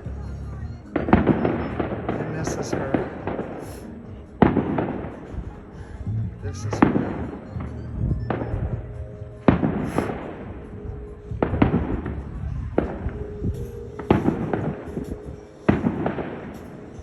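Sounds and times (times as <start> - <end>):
fireworks bangs: 0.9 - 17.0.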